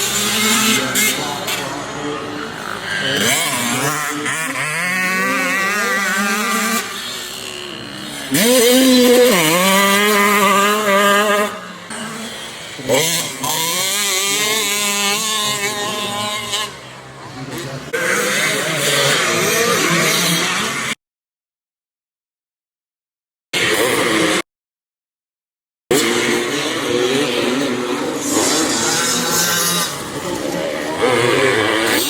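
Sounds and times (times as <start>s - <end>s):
motocross bike engines revving: 0.0s - 21.0s, 23.6s - 24.4s, 25.9s - 32.0s.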